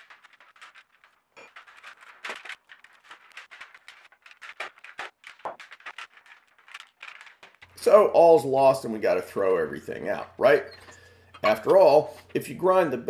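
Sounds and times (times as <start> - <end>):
steel foil crinkling: 0.0 - 12.5.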